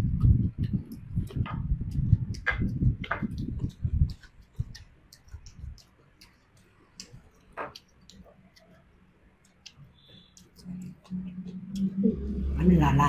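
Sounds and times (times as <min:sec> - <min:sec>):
people chewing: 0:00.2 - 0:12.6
wet mouth clicks and smacks: 0:00.4 - 0:11.9.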